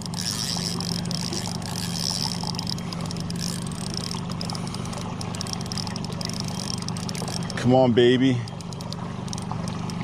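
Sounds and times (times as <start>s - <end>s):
outboard motor running: 0.0s - 10.0s
water rushing along hull: 0.0s - 10.0s.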